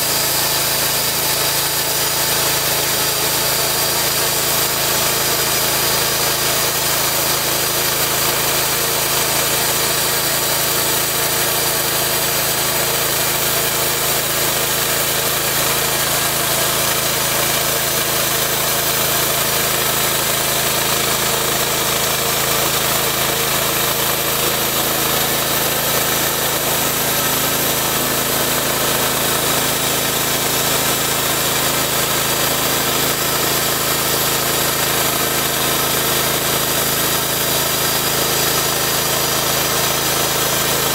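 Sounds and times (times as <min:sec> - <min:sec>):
band blade sawing log: 0:00.0 - 0:40.9
gasoline engine running: 0:00.0 - 0:40.9.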